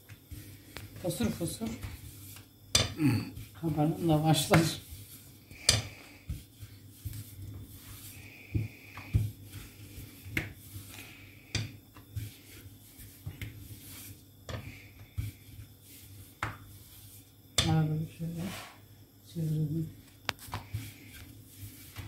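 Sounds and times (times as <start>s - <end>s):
rolling pin rubbing dough: 0.0s - 18.8s, 20.4s - 22.0s
low steady hum: 0.0s - 22.0s.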